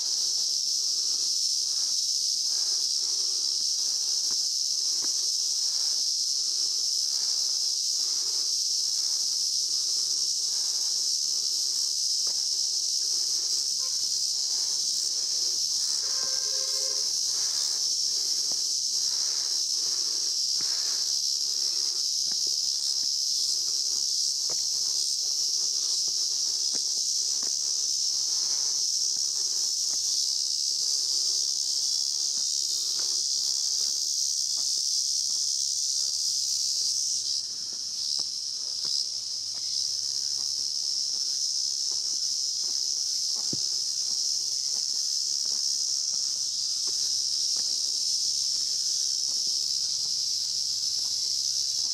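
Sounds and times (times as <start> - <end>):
cicadas buzzing: 0.0 - 51.9
faint footsteps on stone steps: 0.1 - 7.0, 8.1 - 30.3, 37.3 - 51.9.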